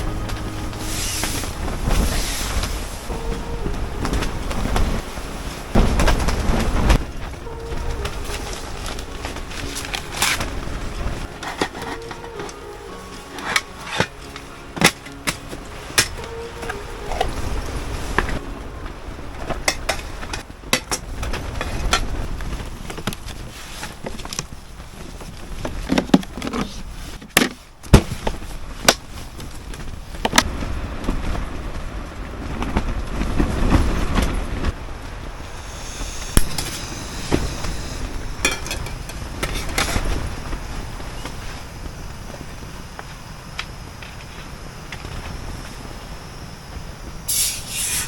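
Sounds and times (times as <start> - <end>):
wind buffeting microphone: 0.0 - 47.3.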